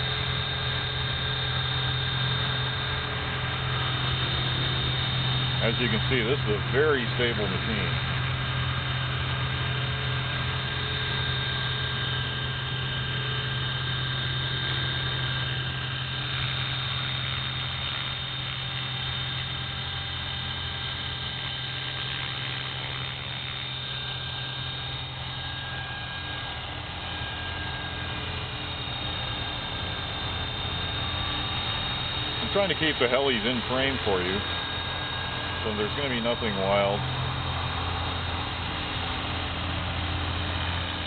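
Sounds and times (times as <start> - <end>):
motor and gear whine: 0.0 - 41.0
rc helicopter rotor drone: 0.0 - 41.0.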